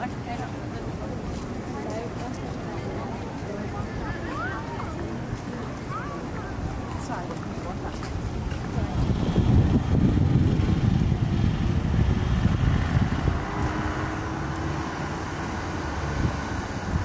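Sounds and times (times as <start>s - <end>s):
road traffic going by: 0.0s - 17.0s.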